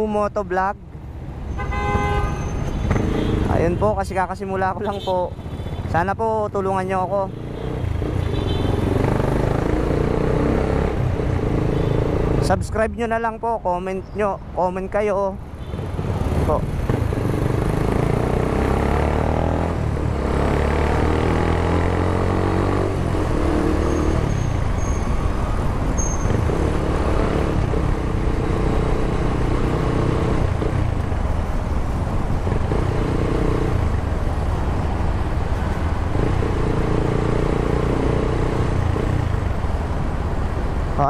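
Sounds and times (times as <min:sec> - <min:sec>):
wind and road noise: 0:00.0 - 0:41.0.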